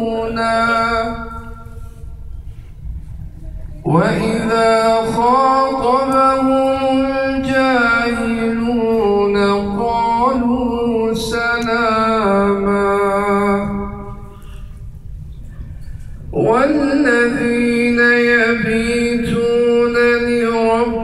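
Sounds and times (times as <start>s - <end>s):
man chanting melodically: 0.0s - 1.8s, 3.8s - 14.4s, 16.3s - 21.0s.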